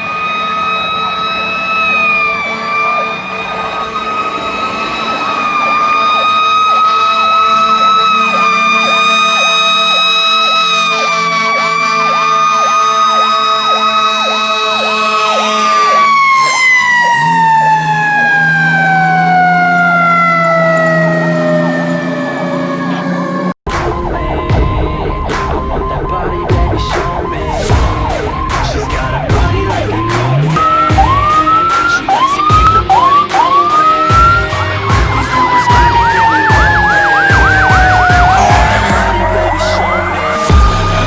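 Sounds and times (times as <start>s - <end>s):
electronic siren yelping: 0.0s - 23.6s, 27.1s - 41.0s
mechanical siren wailing: 0.0s - 23.6s, 27.1s - 41.0s.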